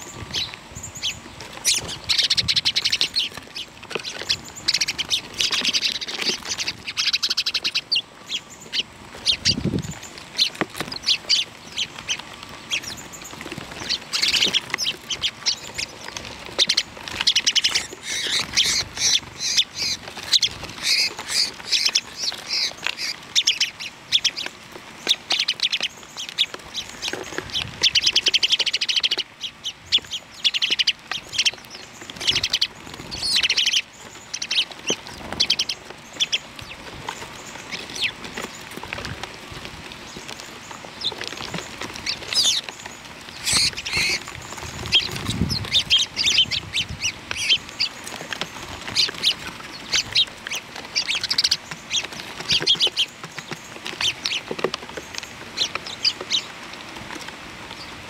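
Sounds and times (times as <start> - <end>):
flock of small birds chirping: 0.0 - 58.0.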